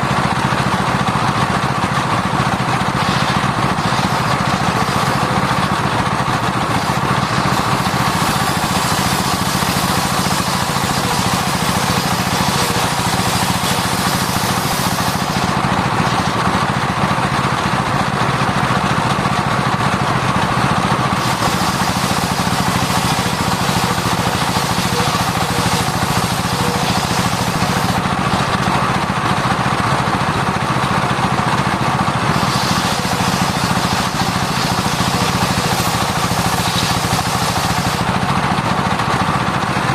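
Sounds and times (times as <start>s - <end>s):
circular saw sawing wood: 0.0s - 39.6s.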